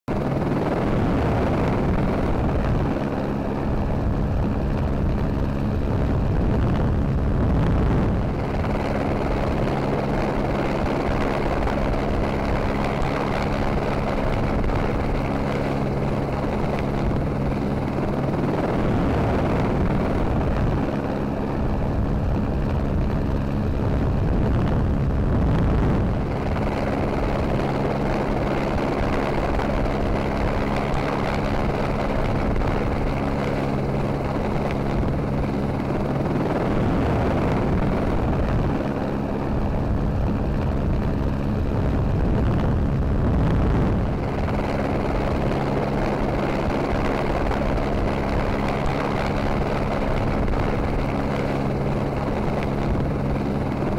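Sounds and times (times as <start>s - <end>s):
helicopter rotor and turbine drone: 0.0s - 53.9s.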